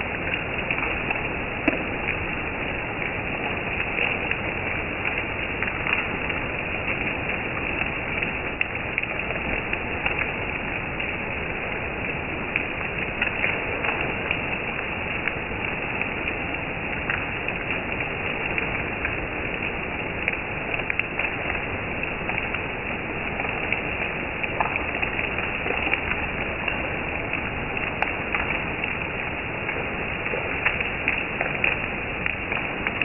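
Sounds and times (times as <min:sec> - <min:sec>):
sharp taps of raindrops: 0:00.0 - 0:33.0
steady rain hissing: 0:00.0 - 0:33.0.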